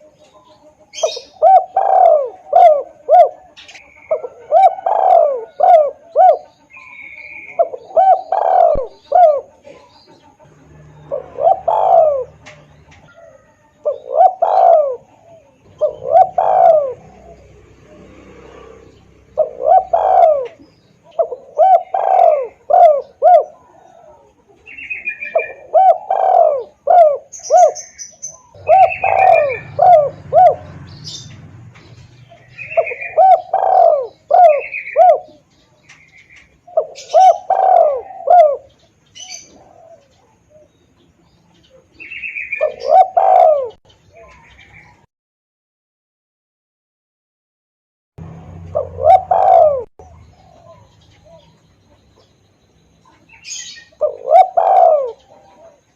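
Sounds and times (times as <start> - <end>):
dove cooing: 0.0 - 45.0, 48.2 - 52.3, 53.0 - 55.9
small birds chirping: 0.0 - 45.1, 48.2 - 55.9.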